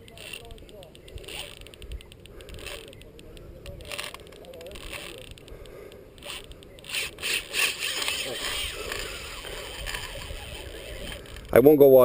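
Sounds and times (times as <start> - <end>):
fishing reel clicking and scraping: 0.0 - 12.0.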